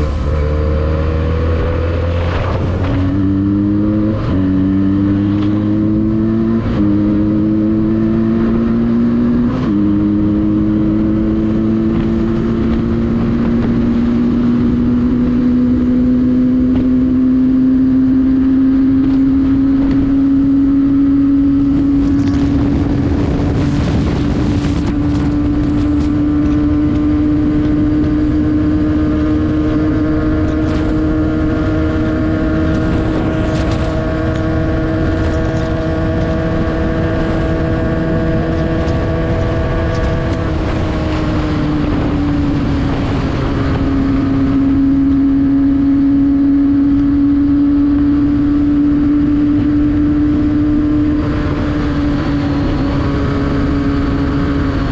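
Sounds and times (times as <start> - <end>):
pickup engine drone: 0.0 - 54.9
road and wind rumble: 0.0 - 54.9.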